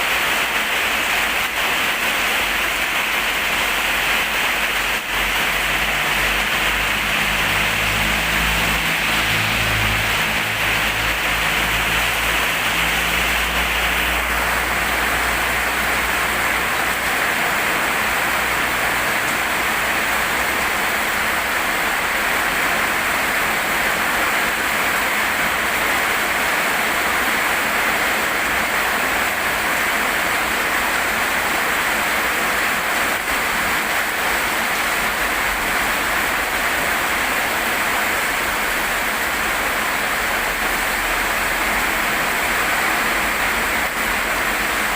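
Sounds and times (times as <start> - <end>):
rain downpour: 0.0 - 44.9.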